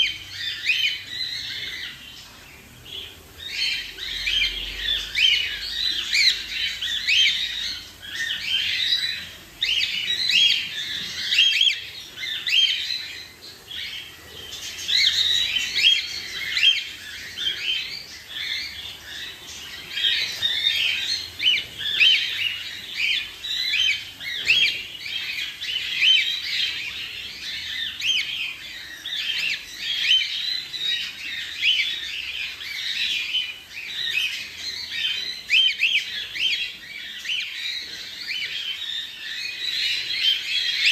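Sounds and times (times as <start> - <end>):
baby birds chirping: 0.0 - 40.9.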